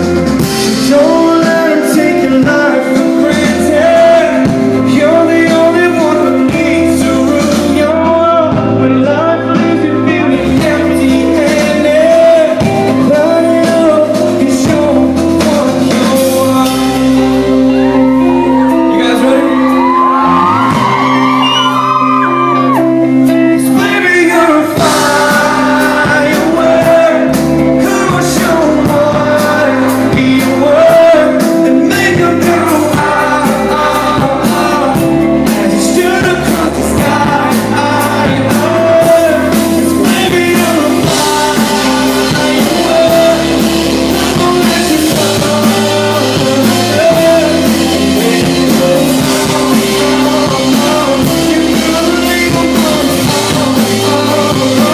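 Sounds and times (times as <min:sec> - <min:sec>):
steady drum beat: 0:00.0 - 0:17.6, 0:18.6 - 0:54.9
live band with singing: 0:00.0 - 0:54.9.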